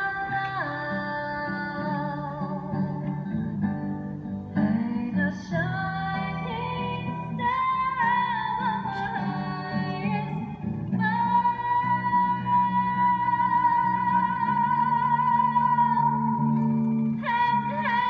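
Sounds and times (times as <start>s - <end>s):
woman singing a carol: 0.0s - 3.6s, 4.5s - 18.0s.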